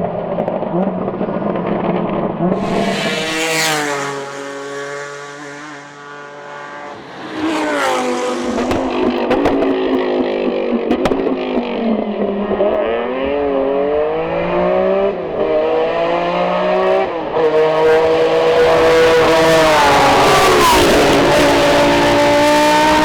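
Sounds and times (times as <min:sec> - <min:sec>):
racing car engine at full throttle: 0:00.0 - 0:23.0.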